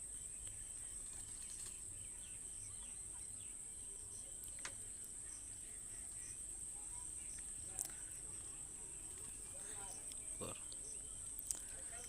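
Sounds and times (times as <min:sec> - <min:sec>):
faint chirps: 0:00.0 - 0:12.0
insects trilling: 0:00.0 - 0:12.0.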